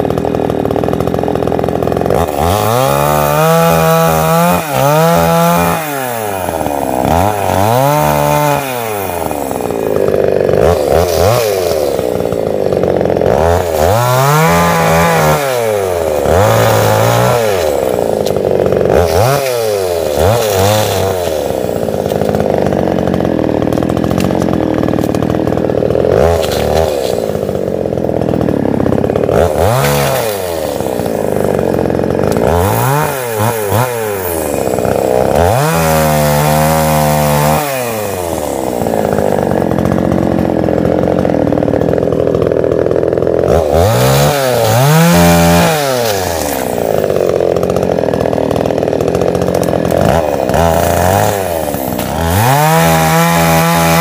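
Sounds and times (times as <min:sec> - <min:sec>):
chainsaw revving and cutting wood: 0:00.0 - 0:54.0.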